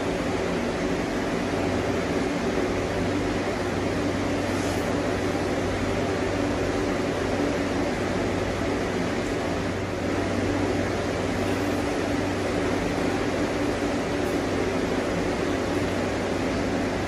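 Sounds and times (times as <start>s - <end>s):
cooling appliance humming: 0.0s - 17.0s.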